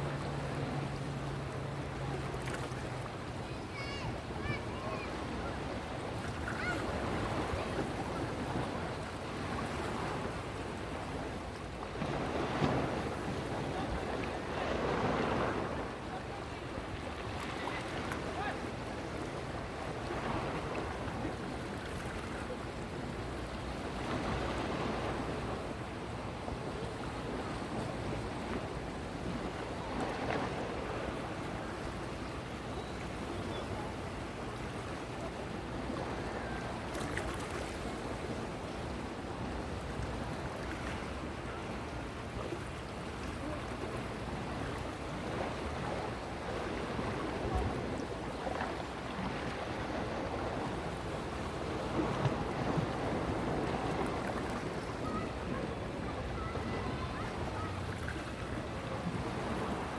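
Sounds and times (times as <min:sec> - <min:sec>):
sea waves washing: 0:00.0 - 0:59.9.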